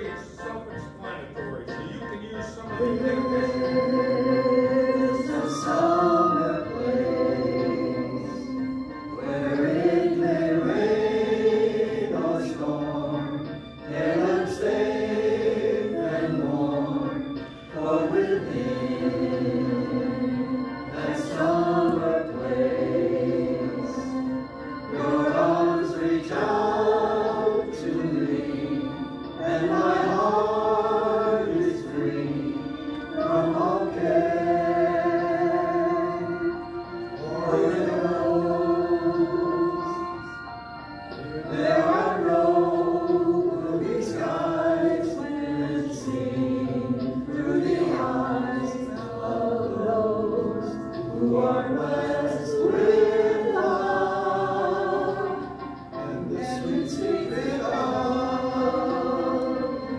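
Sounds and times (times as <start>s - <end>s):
show choir singing: 2.7s - 59.9s.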